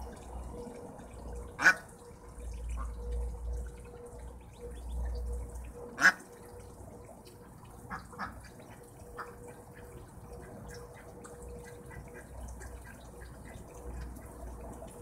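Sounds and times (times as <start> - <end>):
water dripping and splashing: 0.0 - 15.0.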